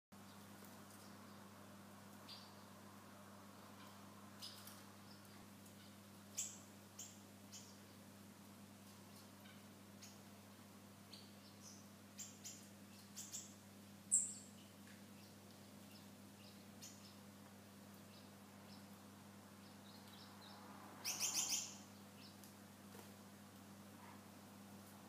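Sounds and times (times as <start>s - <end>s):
small birds chirping: 0.2s - 23.2s
faint low hum: 0.2s - 25.0s.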